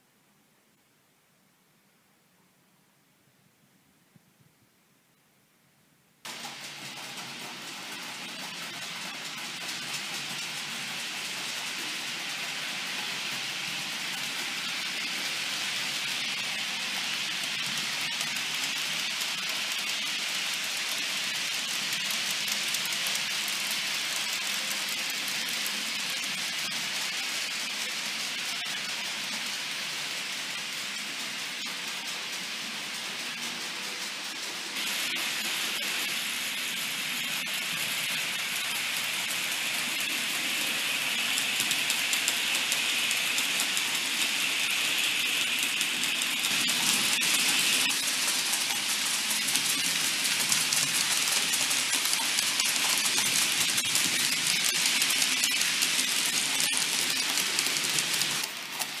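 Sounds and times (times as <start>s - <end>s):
model train wheels rattling on rails: 6.3s - 59.0s.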